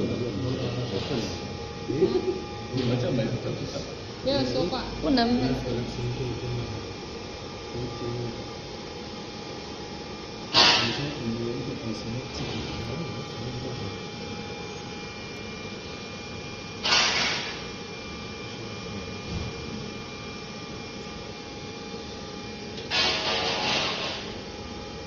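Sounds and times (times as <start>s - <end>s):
heaters and blowers humming: 0.0s - 25.0s.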